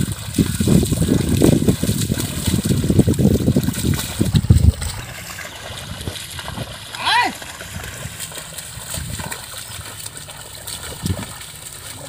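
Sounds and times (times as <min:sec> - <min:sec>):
hooves and plough splashing in mud: 0:00.0 - 0:12.0.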